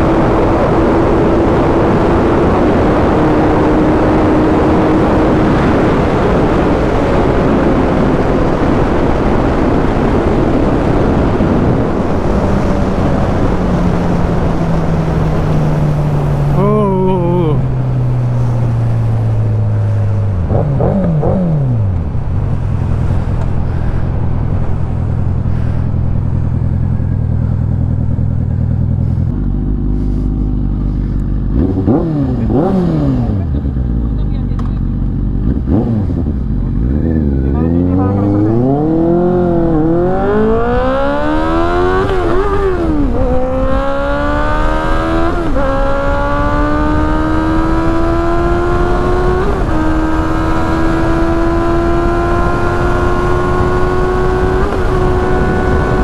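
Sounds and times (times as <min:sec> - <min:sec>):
wind rush: 0:00.0 - 0:33.5, 0:35.3 - 0:56.0
motorcycle engine: 0:00.0 - 0:56.0
another engine: 0:10.0 - 0:56.0.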